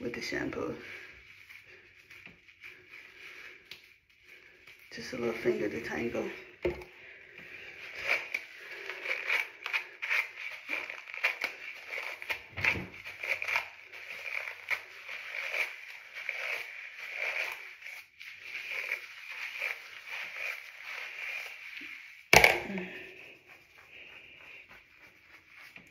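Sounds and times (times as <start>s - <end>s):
wet squishing of shampoo lather: 0.0s - 25.9s.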